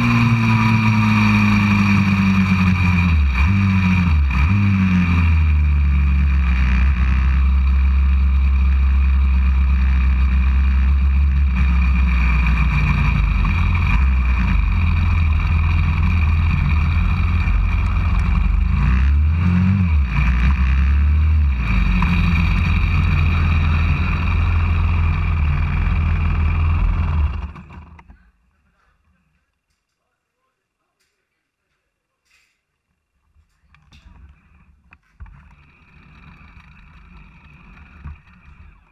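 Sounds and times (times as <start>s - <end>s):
motorcycle engine running: 0.0s - 28.1s, 35.2s - 38.9s.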